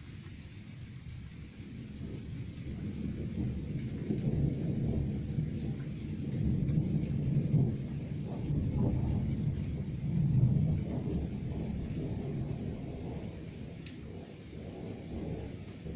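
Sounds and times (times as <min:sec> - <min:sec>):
thunder rumbling: 0:01.6 - 0:15.9.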